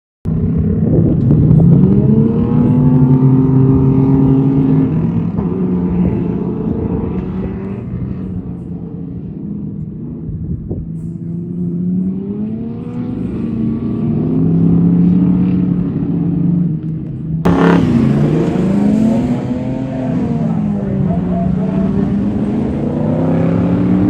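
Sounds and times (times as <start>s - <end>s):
race car engines revving: 0.3s - 24.0s.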